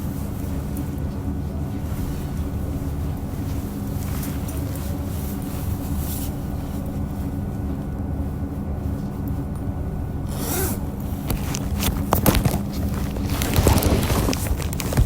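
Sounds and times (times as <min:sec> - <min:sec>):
railcar engine hum: 0:00.0 - 0:13.5.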